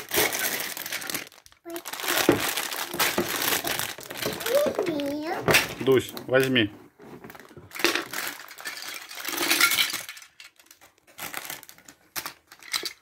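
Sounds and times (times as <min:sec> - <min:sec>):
plastic bricks clattering: 0:00.0 - 0:06.6, 0:07.3 - 0:13.0
plastic bag crinkling: 0:00.0 - 0:13.0.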